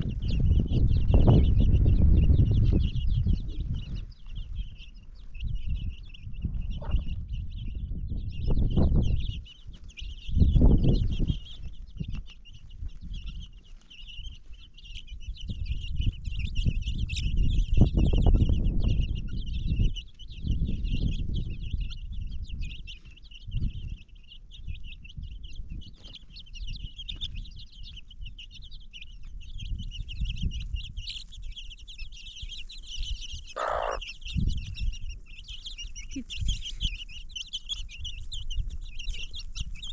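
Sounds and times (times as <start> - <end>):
bird calls: 0.0 - 39.9.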